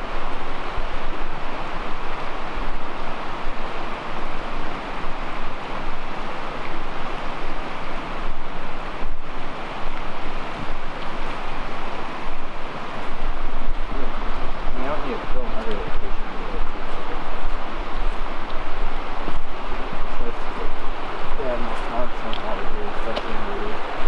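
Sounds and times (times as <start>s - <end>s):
creek water rushing: 0.0s - 24.0s
wind rumble on microphone: 0.0s - 24.0s.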